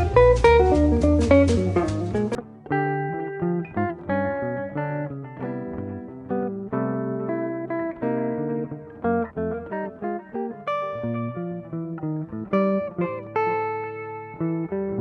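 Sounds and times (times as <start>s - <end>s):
jazz guitar chords: 0.0s - 15.0s.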